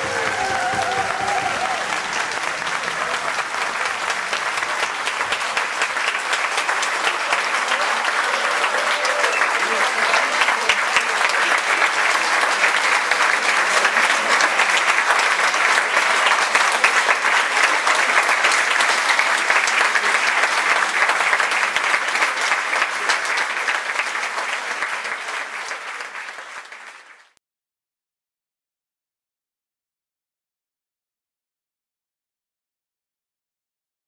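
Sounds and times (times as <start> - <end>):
audience applauding: 0.0 - 27.4.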